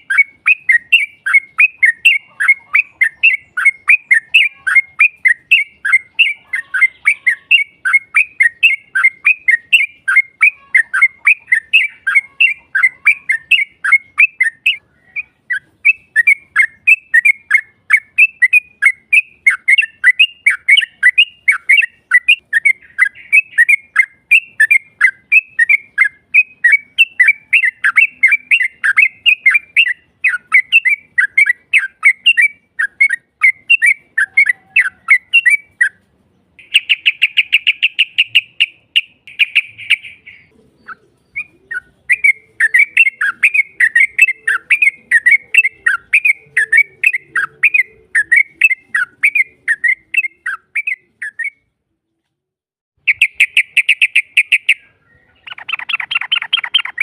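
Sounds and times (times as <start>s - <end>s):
bird buzzy trill: 0.0s - 36.0s, 36.6s - 51.7s
bulbul chattering calls: 0.0s - 36.0s, 36.6s - 51.5s, 53.1s - 57.0s.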